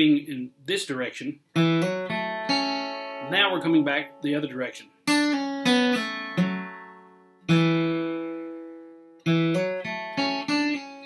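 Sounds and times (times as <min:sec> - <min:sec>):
acoustic guitar picked notes: 0:01.4 - 0:11.0.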